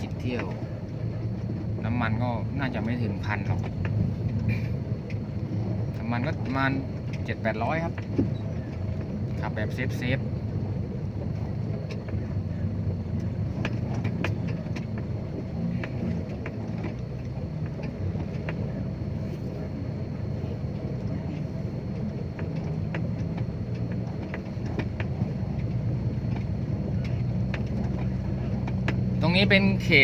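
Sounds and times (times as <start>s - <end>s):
dump truck diesel engine: 0.0s - 30.0s
truck rattles and clicks: 0.0s - 30.0s.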